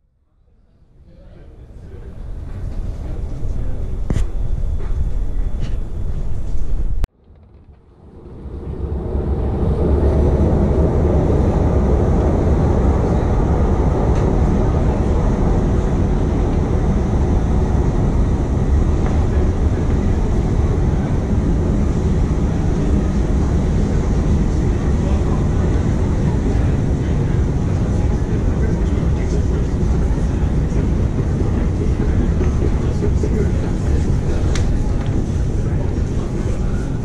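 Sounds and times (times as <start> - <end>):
escalator rumble and hiss: 0.4 - 37.0
murmur of crowd voices: 0.5 - 6.0, 8.4 - 37.0.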